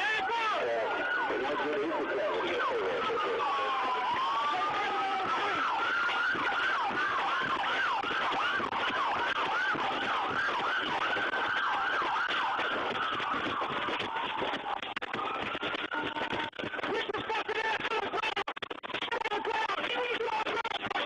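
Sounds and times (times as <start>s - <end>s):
siren yelping: 0.0s - 18.0s.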